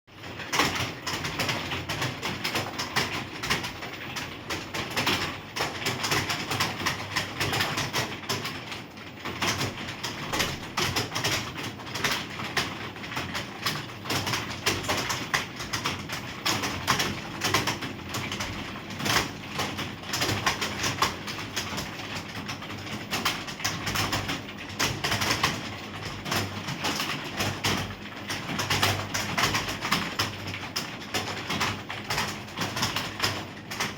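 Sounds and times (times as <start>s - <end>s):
keyboard typing: 0.5s - 33.9s.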